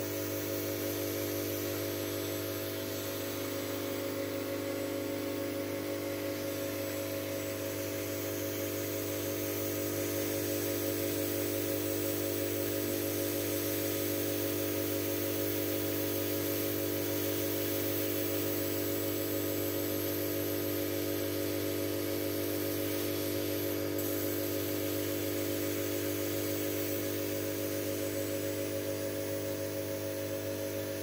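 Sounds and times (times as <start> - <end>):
laser engraver fan humming: 0.0 - 31.0.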